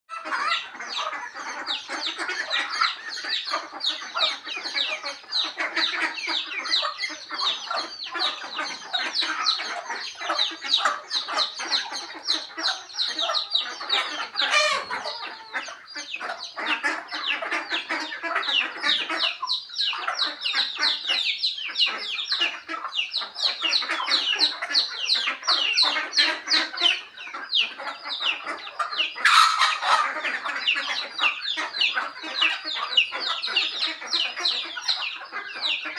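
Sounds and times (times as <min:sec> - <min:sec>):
chickens clucking: 0:00.1 - 0:35.9
chicks peeping: 0:00.1 - 0:35.9
ducks calling: 0:00.1 - 0:35.9.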